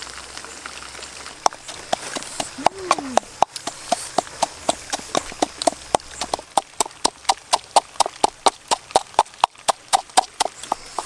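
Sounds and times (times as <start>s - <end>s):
wooden pestle pounding in mortar: 1.7s - 11.0s.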